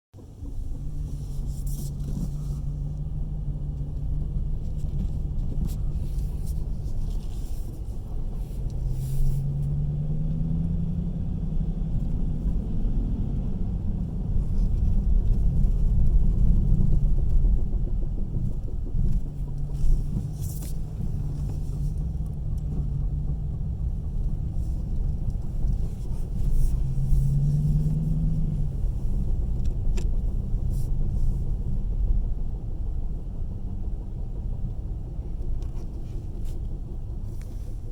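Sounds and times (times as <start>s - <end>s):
car engine rumbling and revving: 0.2s - 37.9s.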